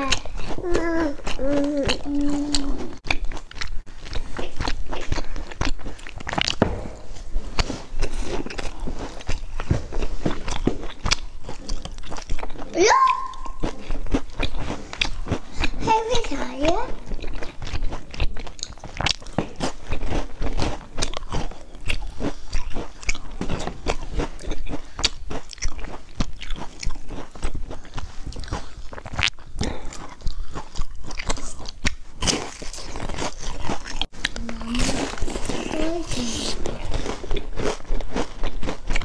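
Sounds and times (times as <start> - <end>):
crunchy biscuit chewing: 0.0 - 39.0.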